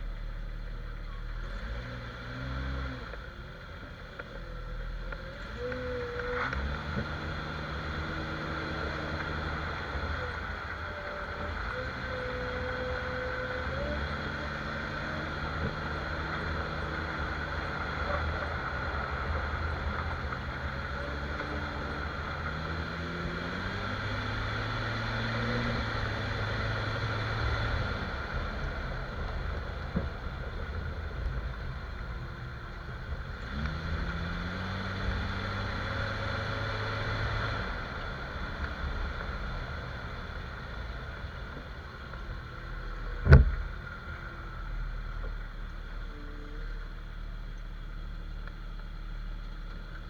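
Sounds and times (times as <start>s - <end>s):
car engine accelerating: 0.0s - 50.0s
road noise inside cabin: 0.0s - 50.0s.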